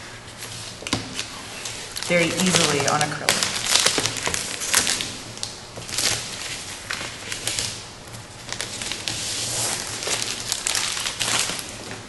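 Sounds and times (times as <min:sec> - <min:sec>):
plastic film crinkling and peeling: 0:00.3 - 0:12.0.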